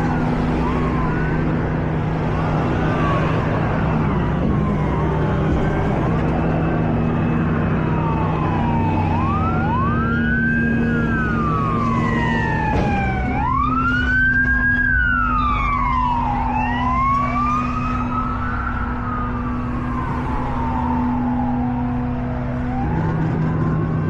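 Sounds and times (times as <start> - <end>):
emergency vehicle sirens wailing: 0.0 - 24.0.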